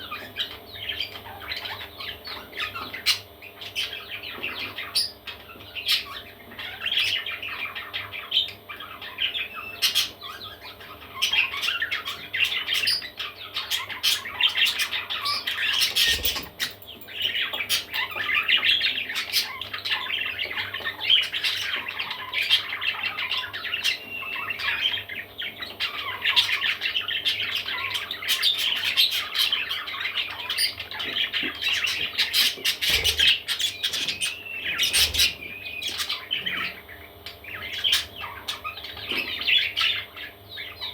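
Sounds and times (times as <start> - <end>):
parrot chicks squawking: 0.0 - 40.9.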